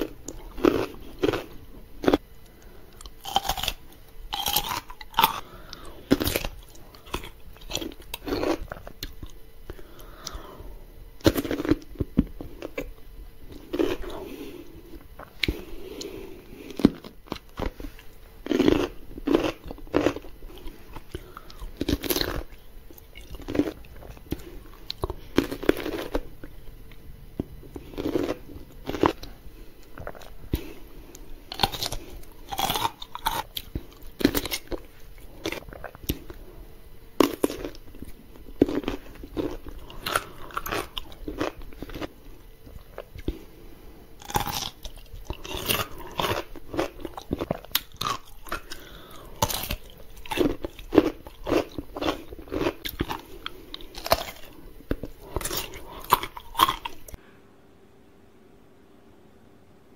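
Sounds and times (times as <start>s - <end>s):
crunchy chewing of pickles: 0.0s - 57.2s.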